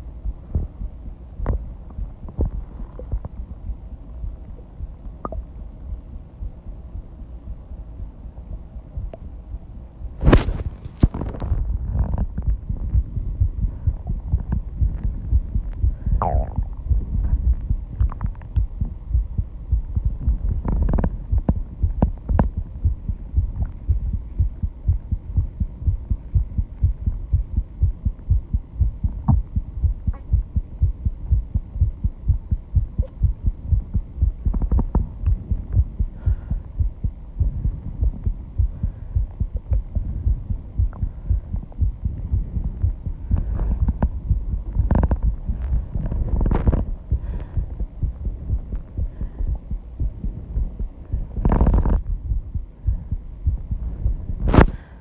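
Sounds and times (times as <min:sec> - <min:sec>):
fast heartbeat thumping: 0:00.2 - 0:55.0.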